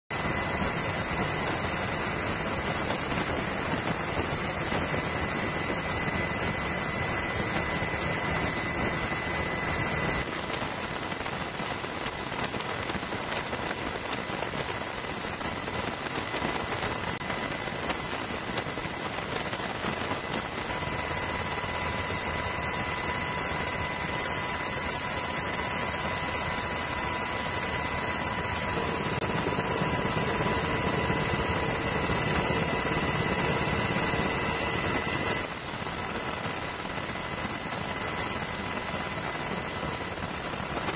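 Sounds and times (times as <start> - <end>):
aircraft engine and wind noise: 0.1 - 40.9
faint high whine: 0.1 - 40.9.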